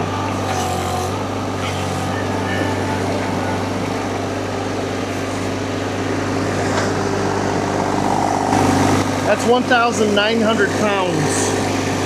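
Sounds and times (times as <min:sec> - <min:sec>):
engine running under load: 0:00.0 - 0:12.0
high whine: 0:01.2 - 0:12.0.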